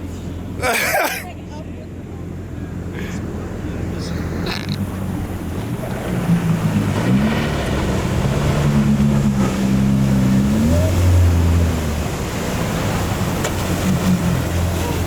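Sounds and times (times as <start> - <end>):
boat engine running: 0.0 - 15.0
surf breaking: 2.9 - 15.0.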